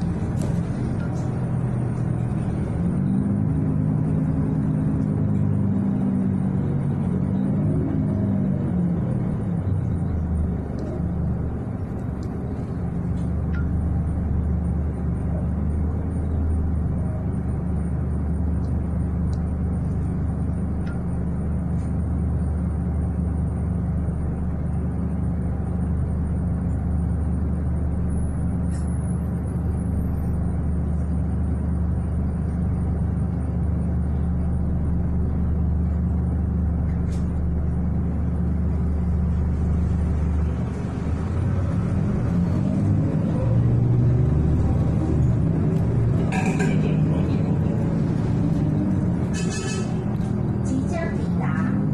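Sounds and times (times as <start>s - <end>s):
bus engine humming: 0.0s - 51.9s.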